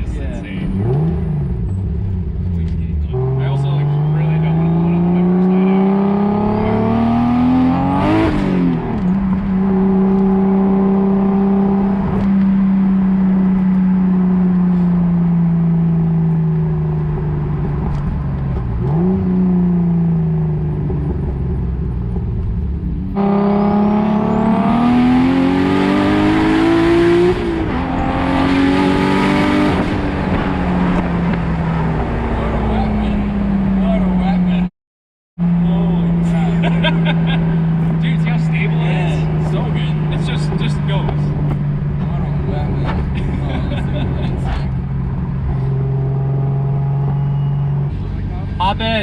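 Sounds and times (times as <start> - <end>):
car engine accelerating: 0.0 - 34.7, 35.4 - 49.0.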